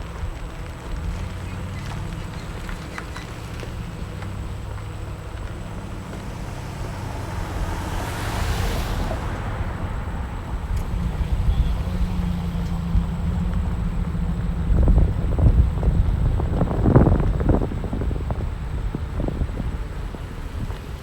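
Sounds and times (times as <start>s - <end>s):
wind rumble on microphone: 0.0s - 21.0s
vehicle passing: 0.2s - 21.0s.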